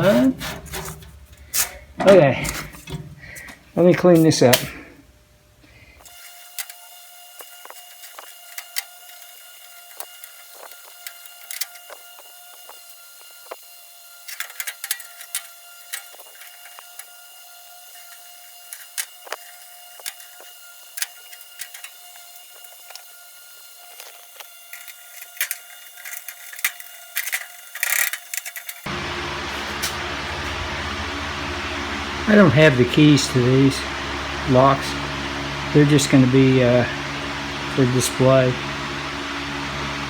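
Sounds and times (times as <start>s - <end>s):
small motor whining: 0.0s - 3.6s, 5.7s - 40.0s.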